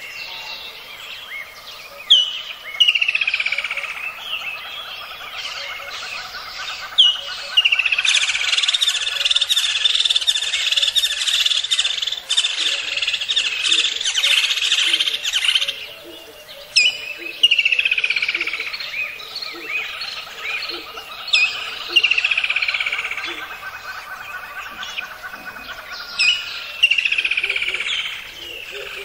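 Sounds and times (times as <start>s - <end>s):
birds chirping and trilling: 0.0s - 29.0s.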